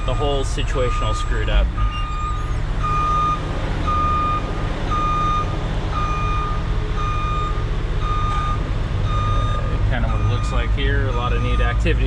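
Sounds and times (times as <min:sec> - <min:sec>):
diesel engine running: 0:00.0 - 0:12.0
truck reverse alarm beeping: 0:00.0 - 0:12.0.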